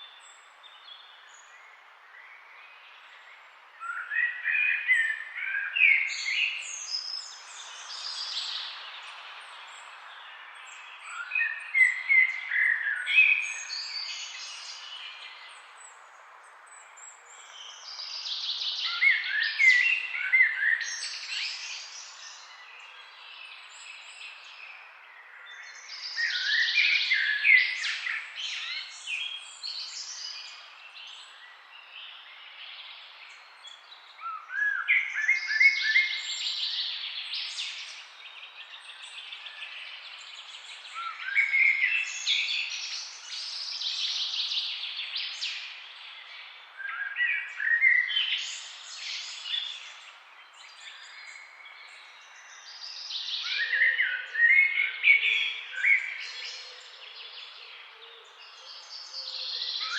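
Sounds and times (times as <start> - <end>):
birds singing and chirping: 2.4 - 59.9.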